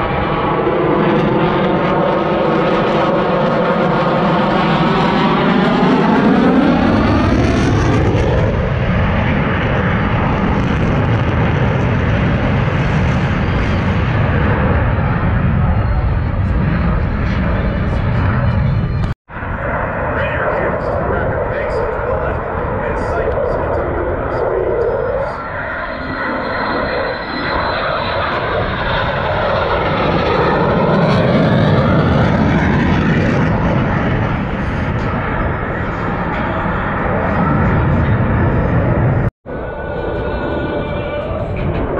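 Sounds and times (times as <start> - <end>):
aircraft engine flying over: 0.0 - 41.9.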